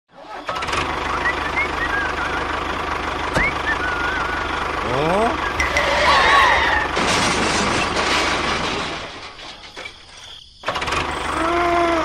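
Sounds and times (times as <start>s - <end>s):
small engine clattering: 0.2s - 10.0s, 10.6s - 11.6s.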